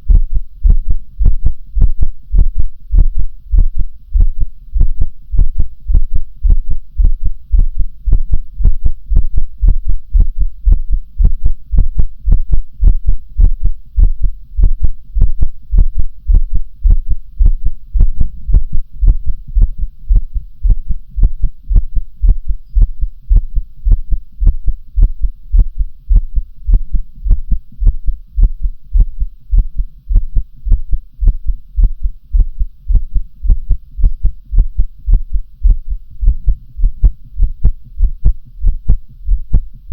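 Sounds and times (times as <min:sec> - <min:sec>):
human heartbeat thudding: 0:00.0 - 0:39.9.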